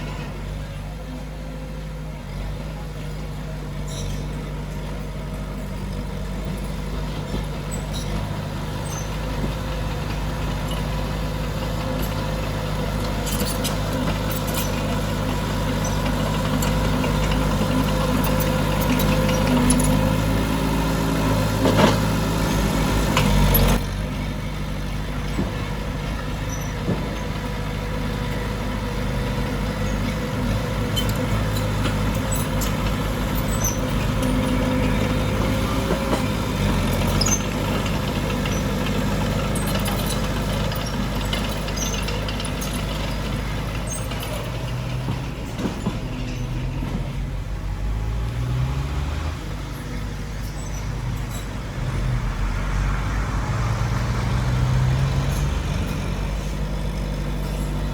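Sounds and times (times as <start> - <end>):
diesel construction machinery running: 0.0 - 57.9.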